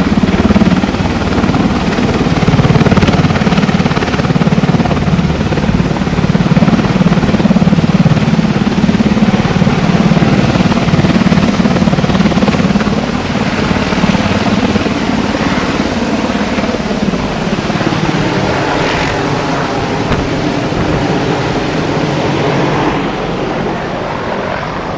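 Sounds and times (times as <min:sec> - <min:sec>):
helicopter rotors and engines: 0:00.0 - 0:24.9.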